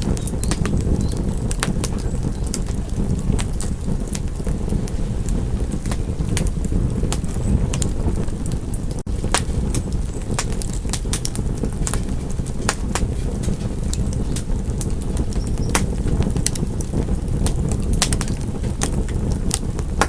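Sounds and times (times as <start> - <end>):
low rumble of burning: 0.0 - 20.0
wood fire crackling and popping: 0.0 - 20.0.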